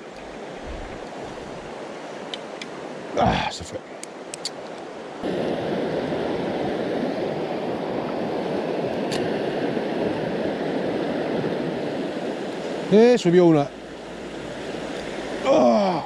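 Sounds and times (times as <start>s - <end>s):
water rushing over stones: 0.0s - 16.0s.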